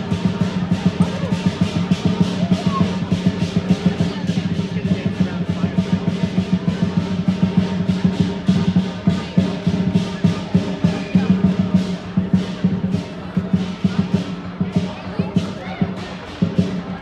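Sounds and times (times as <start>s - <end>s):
crashing cymbals: 0.0s - 16.9s
lion drum pounding: 0.0s - 17.0s.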